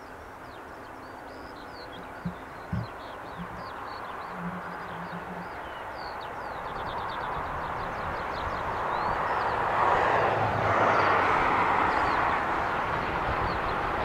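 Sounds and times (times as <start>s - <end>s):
birds chirping: 0.0s - 9.7s, 11.8s - 14.0s.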